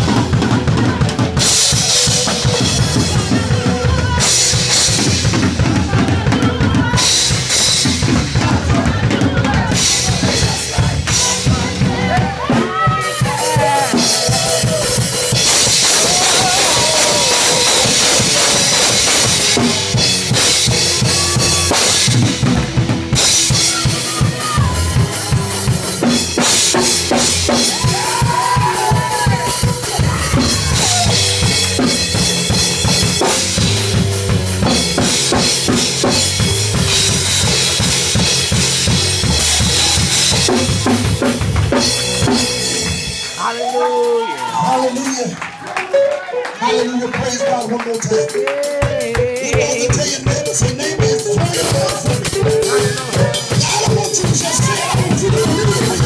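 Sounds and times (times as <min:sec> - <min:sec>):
drum kit played fast: 0:00.0 - 0:56.0
keyboard playing: 0:00.0 - 0:56.0.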